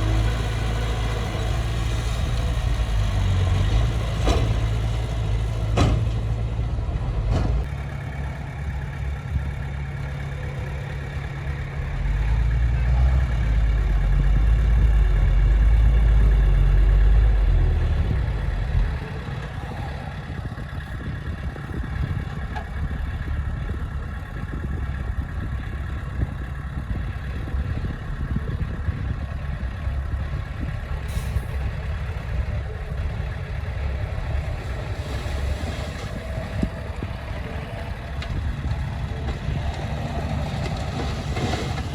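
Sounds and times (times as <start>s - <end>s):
heavy diesel engine rumbling: 0.0s - 41.9s.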